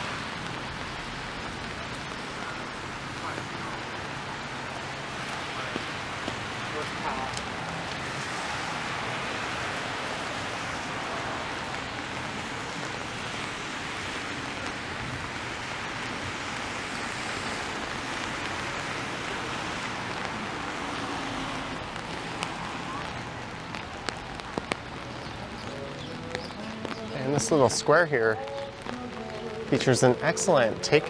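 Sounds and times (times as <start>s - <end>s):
car tyres on wet street: 0.0s - 31.0s
rain hiss: 0.0s - 31.0s.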